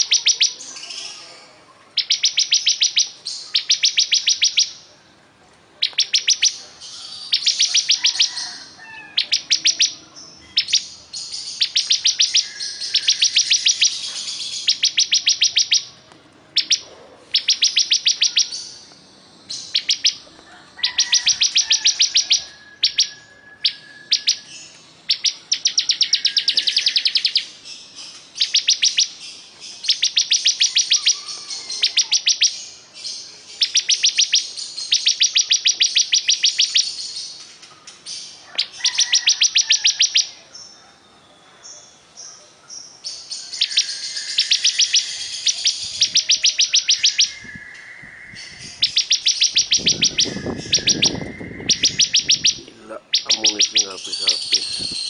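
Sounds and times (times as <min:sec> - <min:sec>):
bird singing fast high trills: 0:00.0 - 0:01.3, 0:02.0 - 0:04.9, 0:05.8 - 0:20.2, 0:20.8 - 0:37.4, 0:43.1 - 0:55.0.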